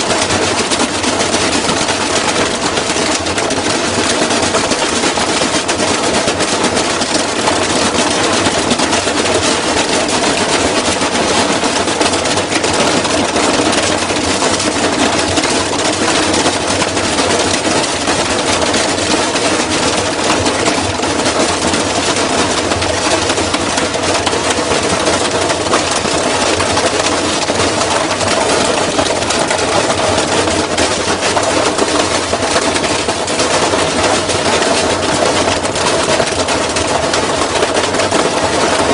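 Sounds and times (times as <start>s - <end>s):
loose objects clattering in drum: 0.0s - 38.9s
washing machine rumble: 0.0s - 38.9s.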